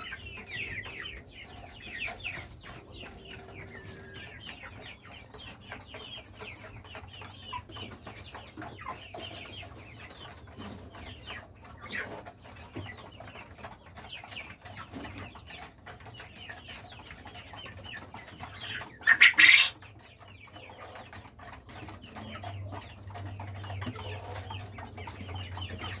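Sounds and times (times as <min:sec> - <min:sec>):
quail chattering and chirping: 0:00.0 - 0:26.0.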